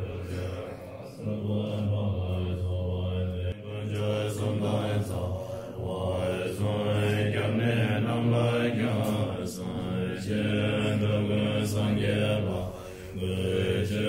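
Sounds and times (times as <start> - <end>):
monks chanting in low voices: 0.0 - 14.0.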